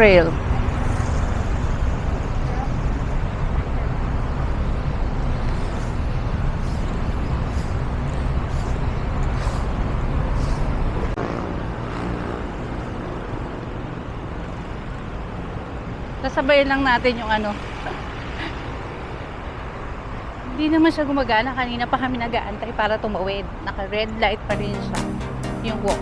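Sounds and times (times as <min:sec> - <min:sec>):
traffic rumble of passing vehicles: 0:00.0 - 0:26.0.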